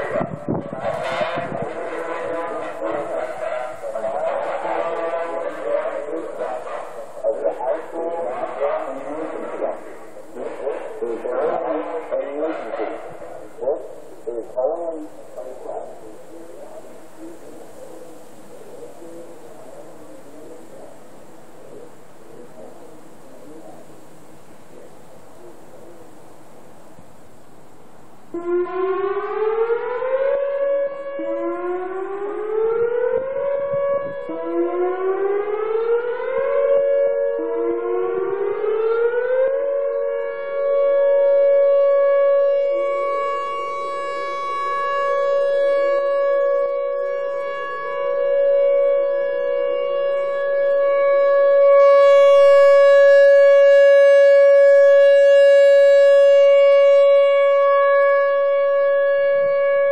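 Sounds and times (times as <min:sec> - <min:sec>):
outdoor warning siren wailing: 0:00.0 - 0:59.9.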